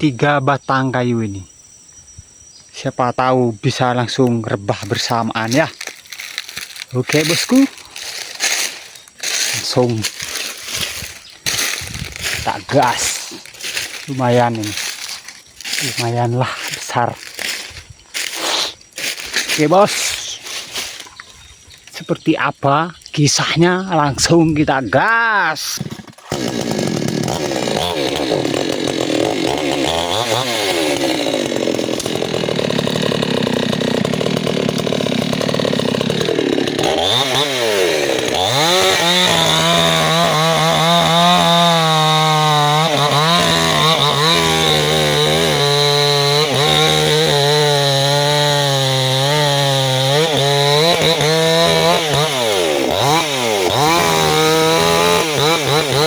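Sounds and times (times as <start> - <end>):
chainsaw cutting tree trunk: 4.8 - 22.0, 25.6 - 56.0.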